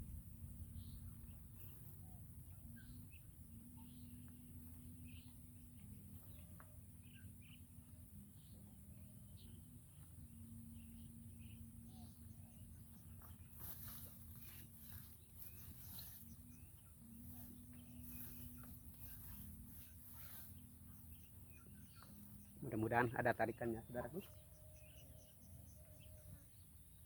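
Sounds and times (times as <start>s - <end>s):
bird chirps: 0.0s - 27.0s
insect calls: 0.0s - 27.0s
steady low hum: 0.0s - 27.0s.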